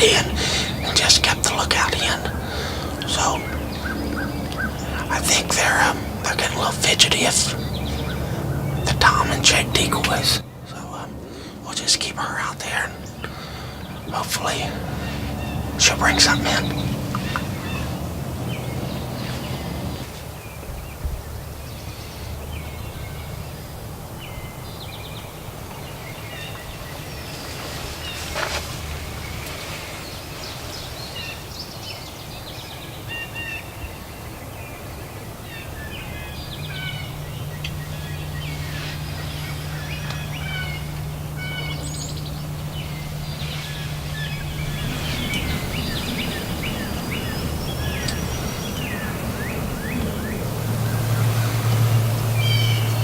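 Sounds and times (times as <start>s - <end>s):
songbird calls and trills: 0.0s - 53.0s
steady low hum: 0.0s - 53.0s.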